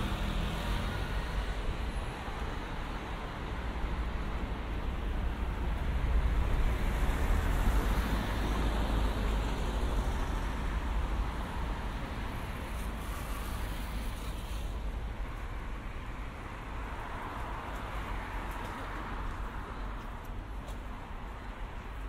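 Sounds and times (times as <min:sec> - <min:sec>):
rumble of cars on road: 0:00.0 - 0:22.0.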